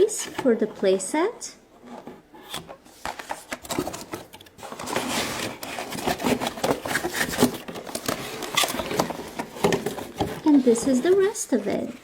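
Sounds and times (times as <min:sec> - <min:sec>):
plastic toy parts rubbing and scraping: 0:01.8 - 0:12.0.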